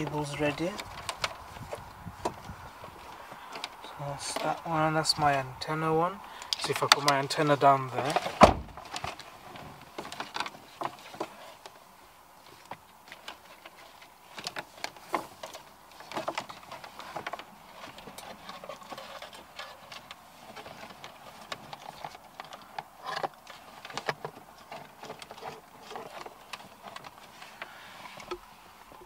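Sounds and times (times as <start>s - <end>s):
cables rustling against plastic: 0.0s - 29.0s.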